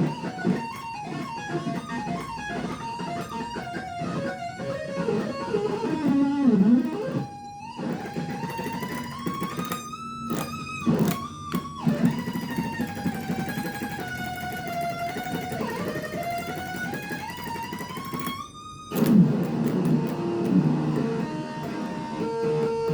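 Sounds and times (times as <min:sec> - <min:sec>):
electric guitar lead melody: 0:00.0 - 0:22.9.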